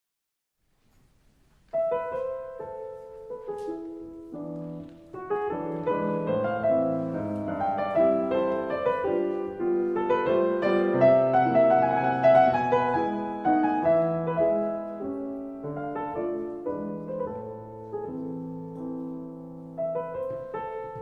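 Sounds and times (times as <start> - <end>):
piano music: 1.6 - 21.0.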